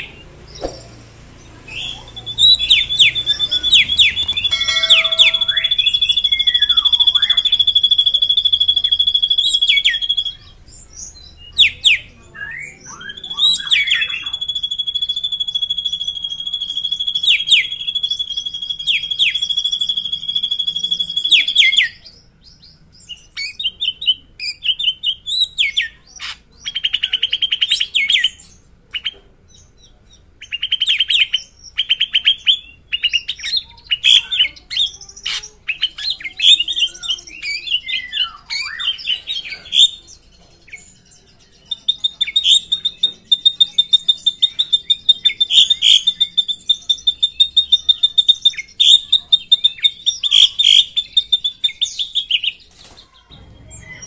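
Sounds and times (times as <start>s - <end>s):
bird song with whistles and trills: 0.0s - 54.0s.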